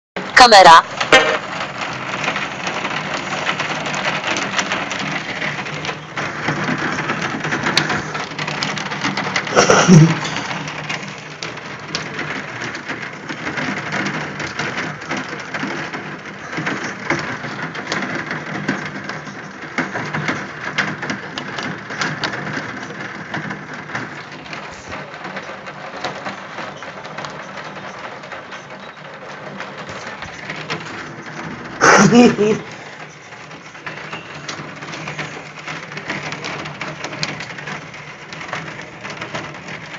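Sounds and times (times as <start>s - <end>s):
heavy rain and hail pelting: 0.2s - 39.9s.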